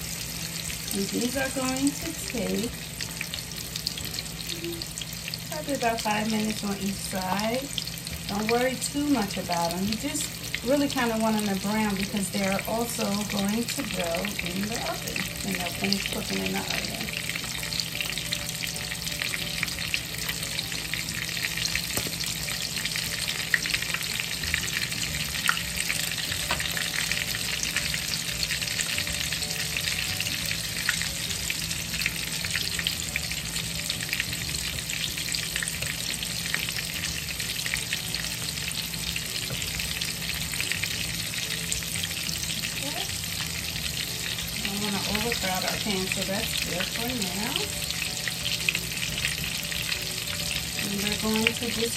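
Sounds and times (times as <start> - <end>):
chicken frying in oil: 0.0 - 51.9.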